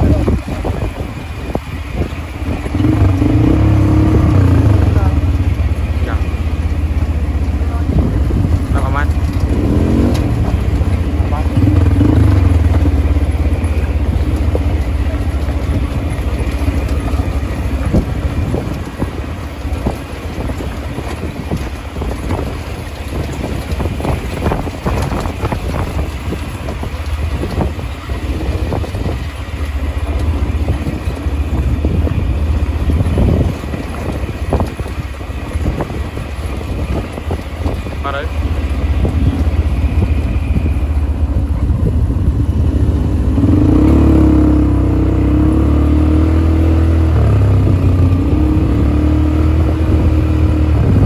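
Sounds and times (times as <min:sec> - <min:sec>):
atv engine rumbling: 0:00.0 - 0:51.0
knocks and rattles: 0:00.0 - 0:51.0.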